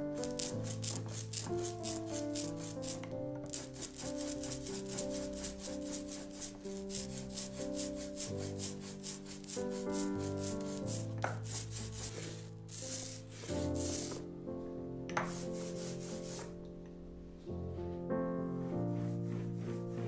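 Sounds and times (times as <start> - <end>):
rubber roller rolling through ink: 0.0 - 14.2, 15.2 - 16.6, 18.6 - 20.0
soft background music: 0.0 - 20.0.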